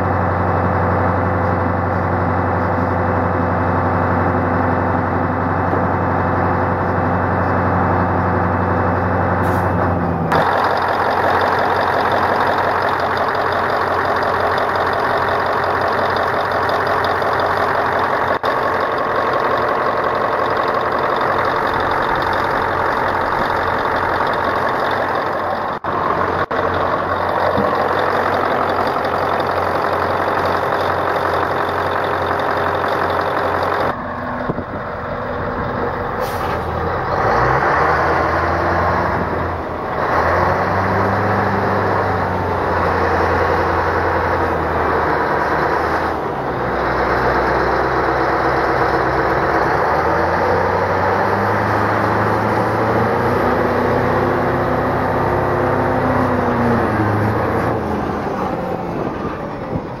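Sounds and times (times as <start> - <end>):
diesel truck engine: 0.0 - 60.0.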